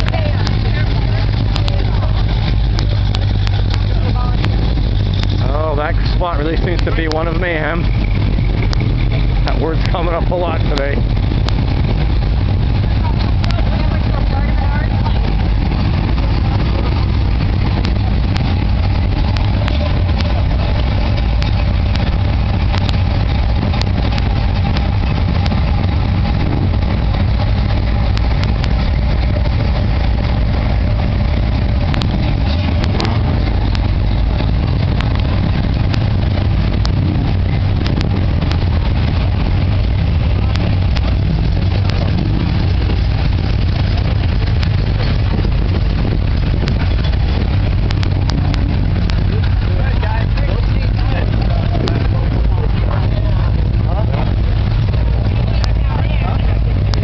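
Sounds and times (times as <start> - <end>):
car engines idling: 0.0 - 57.0.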